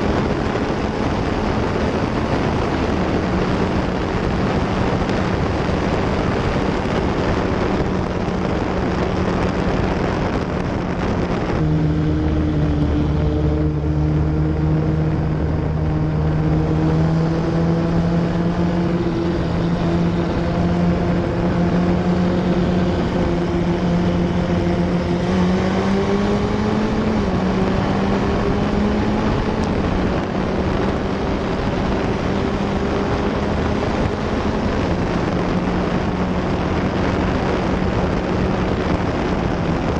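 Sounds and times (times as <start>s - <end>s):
race car engine at high revs: 0.0s - 39.9s
wind rush on microphone: 0.0s - 39.9s.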